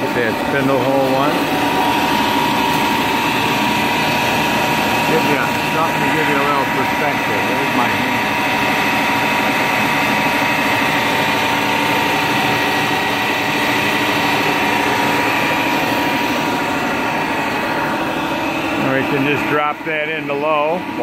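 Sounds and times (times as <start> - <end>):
lathe running with whining hum: 0.0 - 21.0.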